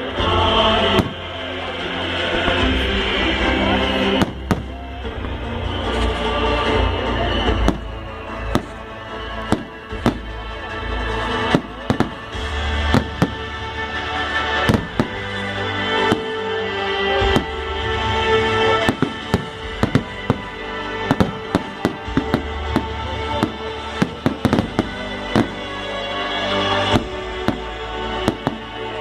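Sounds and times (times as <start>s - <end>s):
music with held notes: 0.0s - 29.0s.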